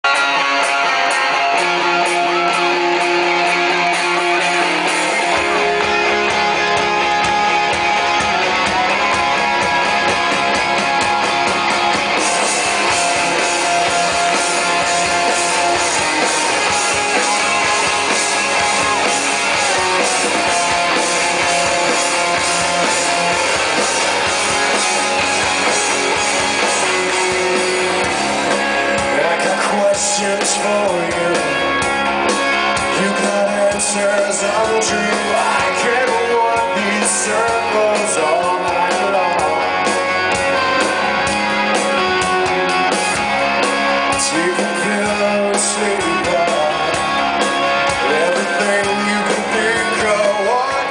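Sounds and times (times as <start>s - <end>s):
electric guitars playing: 0.0s - 50.9s
rock band playing: 0.0s - 50.9s.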